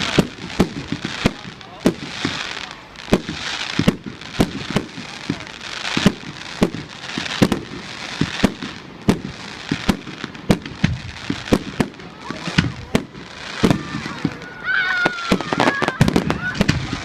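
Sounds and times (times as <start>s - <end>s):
crackling hiss of fireworks: 0.0s - 17.0s
firework bangs: 0.0s - 17.0s.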